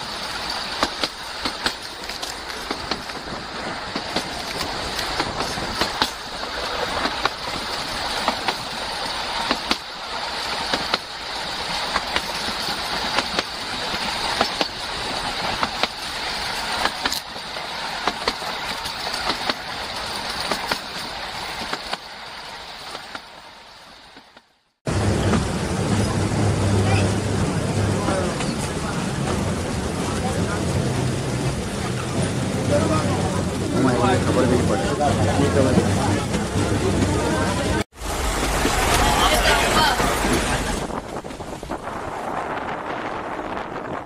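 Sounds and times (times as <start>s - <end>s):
wheels clicking over rail joints: 0.0s - 26.3s, 26.9s - 42.0s
railway coach running noise: 0.0s - 44.0s.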